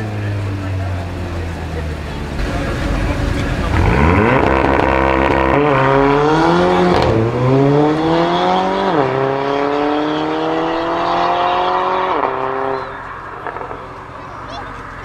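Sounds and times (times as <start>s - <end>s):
car engine accelerating hard: 0.0s - 15.0s
quick gear upshifts: 0.0s - 15.0s.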